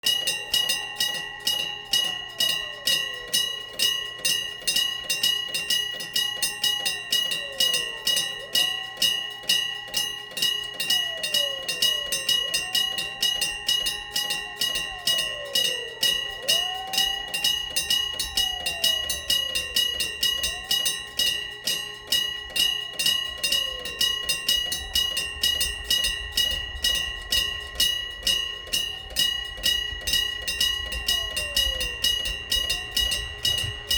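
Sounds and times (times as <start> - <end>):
railway crossing bell striking: 0.0 - 33.9.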